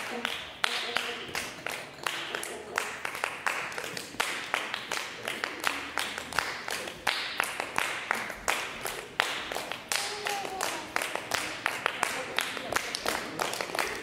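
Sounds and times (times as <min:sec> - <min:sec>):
sharp percussive claps: 0:00.0 - 0:14.0.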